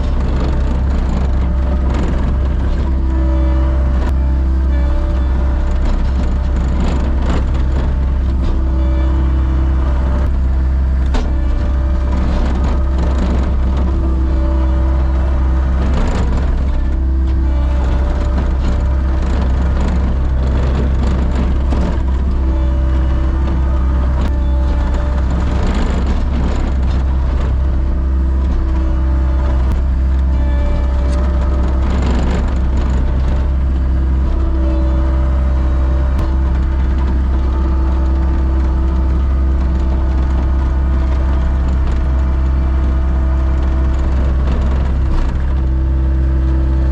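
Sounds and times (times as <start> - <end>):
diesel engine humming: 0.0 - 46.9.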